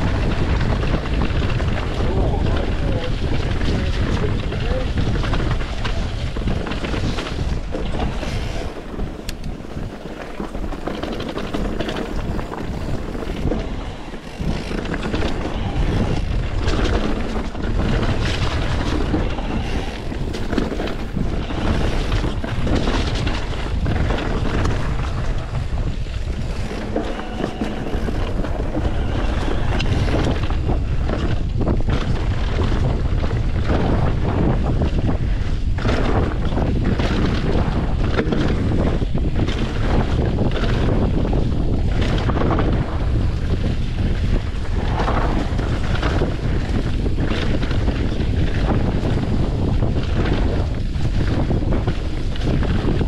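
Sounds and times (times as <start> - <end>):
bike rattling and knocking: 0.0 - 53.0
bike tyres on dirt: 0.0 - 53.0
wind buffeting microphone: 0.0 - 53.0.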